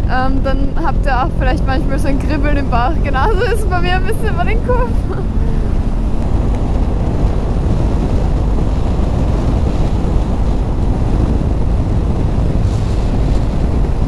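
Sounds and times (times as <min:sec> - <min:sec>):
motorcycle running: 0:00.0 - 0:14.0
wind buffeting microphone: 0:00.0 - 0:14.0.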